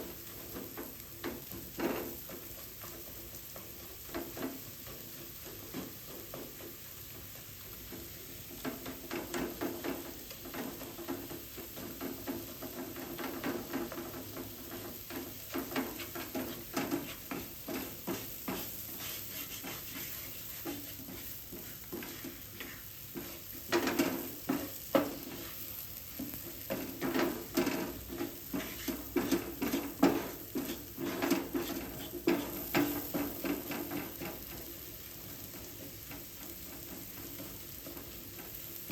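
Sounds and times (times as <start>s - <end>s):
curry sizzling: 0.0s - 38.9s
spoon stirring and scraping pan: 0.0s - 38.9s.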